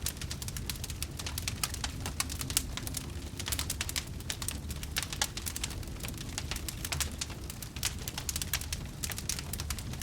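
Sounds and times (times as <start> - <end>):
low rumble of flames: 0.0 - 10.0
wood fire crackling and popping: 0.0 - 10.0.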